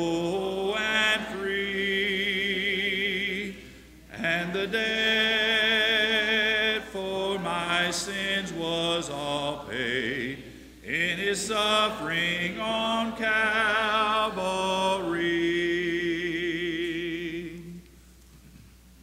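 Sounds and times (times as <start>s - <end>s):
man leading singing: 0.0s - 17.8s
congregation singing a hymn: 0.0s - 17.9s.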